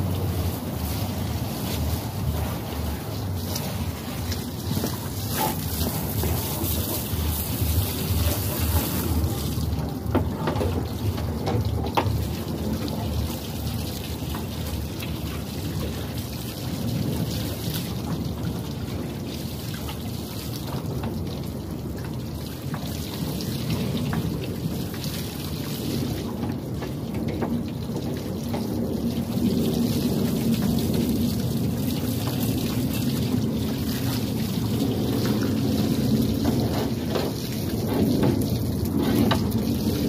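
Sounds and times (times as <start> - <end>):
hose water spraying and splashing: 0.0 - 40.0
wind rumble on microphone: 0.0 - 40.0.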